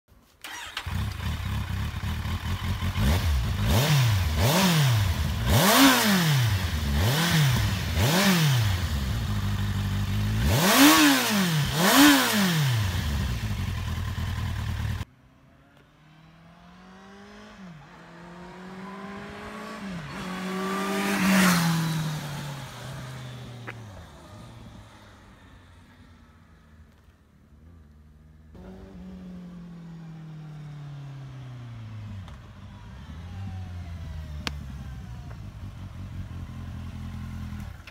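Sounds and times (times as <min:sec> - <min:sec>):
motorcycle engine revving: 0:00.4 - 0:26.0, 0:27.6 - 0:37.9
motorcycle accelerating through gears: 0:00.4 - 0:37.9.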